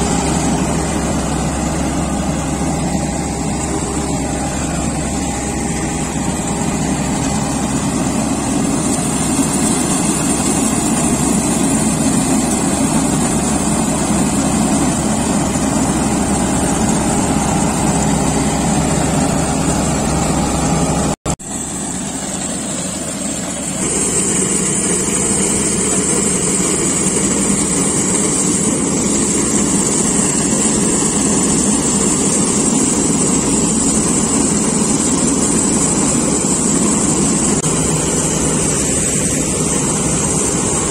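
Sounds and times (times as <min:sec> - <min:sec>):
combine harvester engine drone: 0:00.0 - 0:40.9.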